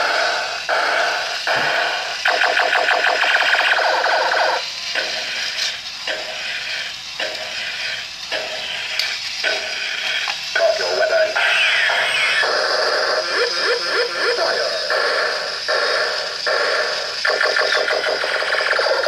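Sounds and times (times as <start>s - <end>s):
toy robot electronic sound effects: 0.0s - 19.0s.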